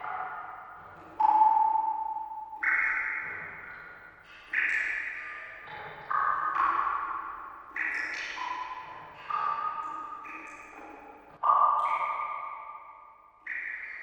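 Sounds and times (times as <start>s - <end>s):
water drops plinking into water: 1.2s - 14.0s.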